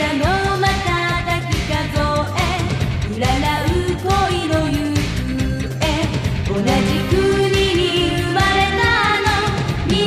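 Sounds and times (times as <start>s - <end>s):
pop band playing: 0.0s - 10.0s
woman singing pop song: 0.0s - 10.0s.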